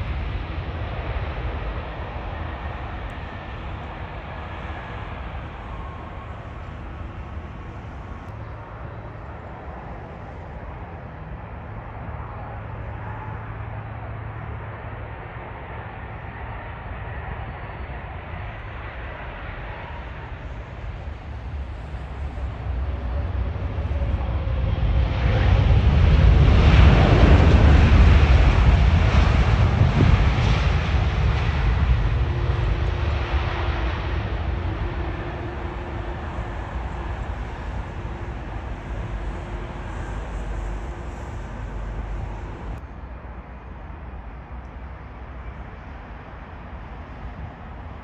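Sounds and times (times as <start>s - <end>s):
jet airliner landing rumble: 0.0s - 48.0s.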